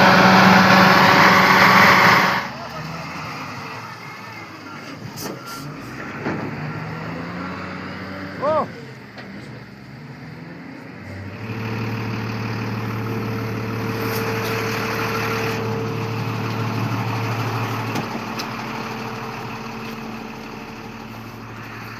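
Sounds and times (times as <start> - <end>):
vehicle engine idling: 0.0 - 7.3, 10.8 - 21.9.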